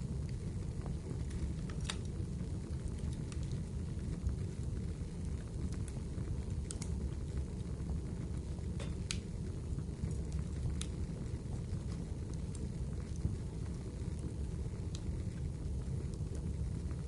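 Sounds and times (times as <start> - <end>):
burning wood crackles and pops: 0.0 - 17.0
fire flames rumbling: 0.0 - 17.0.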